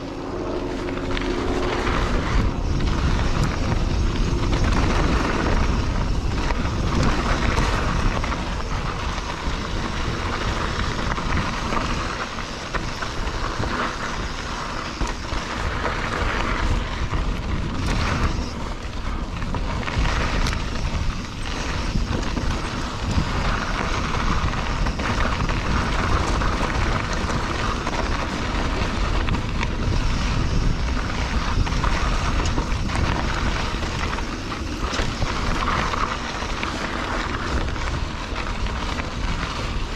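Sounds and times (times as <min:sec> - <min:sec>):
tyre noise on dirt: 0:00.0 - 0:39.9
wind buffeting microphone: 0:00.0 - 0:39.9
bike knocks and rattles: 0:00.8 - 0:39.9.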